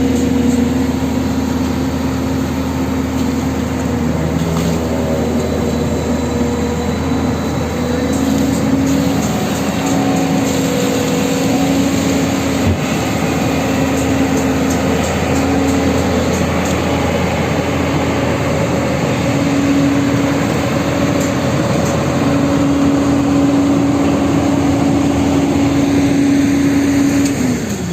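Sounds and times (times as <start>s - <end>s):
engine running: 0.0s - 27.9s
road traffic noise: 0.0s - 27.9s.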